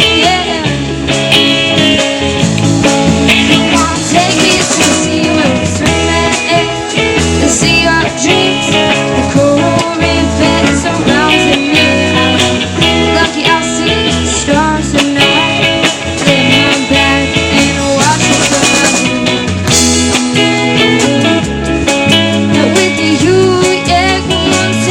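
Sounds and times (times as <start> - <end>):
bass line: 0.0 - 24.9
electric guitar lead: 0.0 - 24.9.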